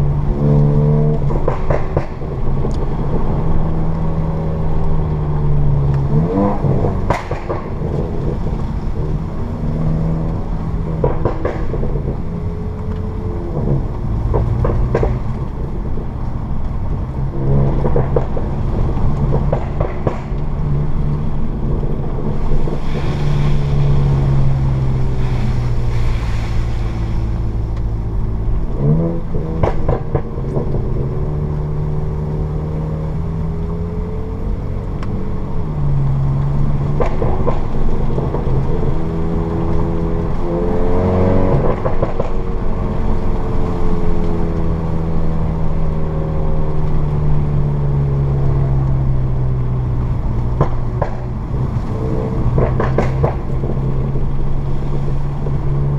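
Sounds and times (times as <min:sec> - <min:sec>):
exhaust pops and crackles: 0:00.0 - 0:55.9
road rumble: 0:00.0 - 0:55.9.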